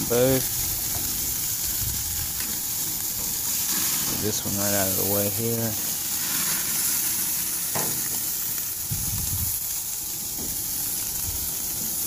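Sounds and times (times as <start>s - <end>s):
steaks sizzling on a grill: 0.0s - 12.0s.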